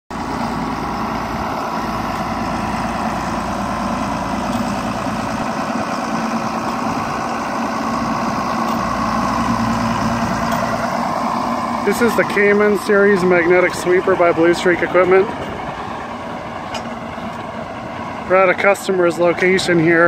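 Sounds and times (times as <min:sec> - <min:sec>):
tractor diesel engine running: 0:00.1 - 0:20.0.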